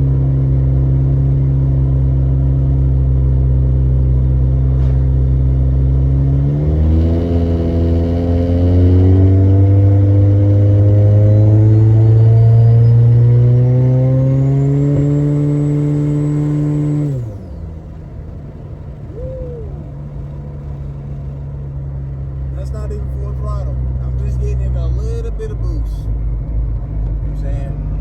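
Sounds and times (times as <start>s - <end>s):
turbocharged car engine revving: 0.0s - 28.0s.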